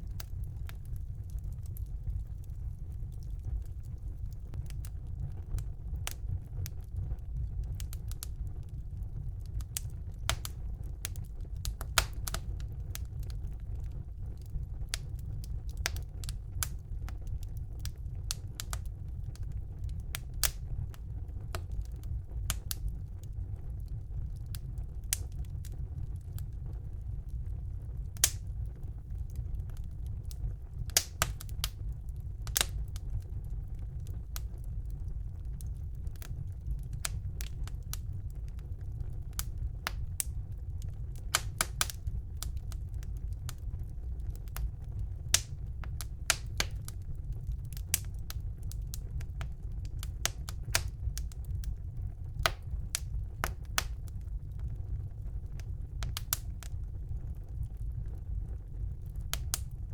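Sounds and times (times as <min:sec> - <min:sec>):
burning logs crackling and popping: 0:00.0 - 0:59.9
low rumble of flames: 0:00.0 - 0:59.9.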